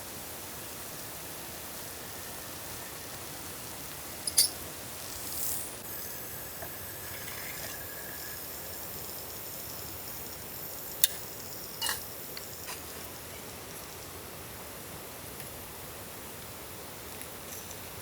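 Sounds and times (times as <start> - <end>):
rain hissing: 0.1 - 15.3.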